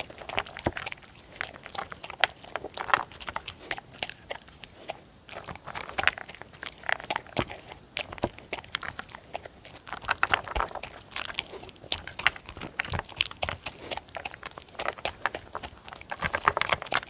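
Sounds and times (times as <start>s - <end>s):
dog chewing and crunching: 0.0s - 17.0s.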